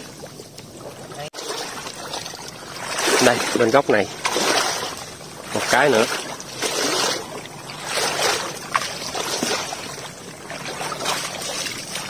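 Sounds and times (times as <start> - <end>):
water sloshing around wading legs: 0.0 - 12.0.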